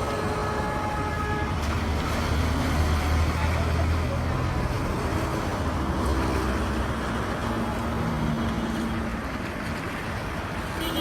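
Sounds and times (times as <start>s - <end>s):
road noise hiss: 0.0s - 11.0s
vehicle engines passing: 0.0s - 11.0s.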